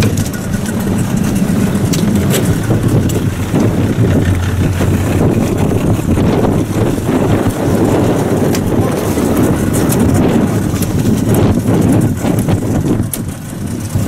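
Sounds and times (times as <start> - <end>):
outboard motor running: 0.0 - 14.0
wind rumble on microphone: 0.0 - 14.0.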